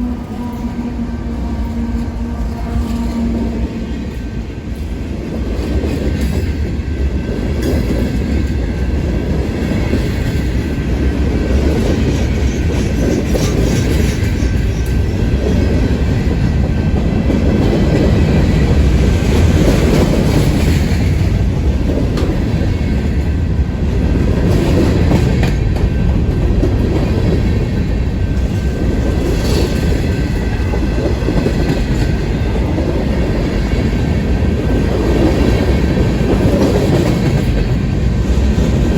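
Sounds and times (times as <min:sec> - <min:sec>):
train cars rumbling past: 0:00.0 - 0:38.9.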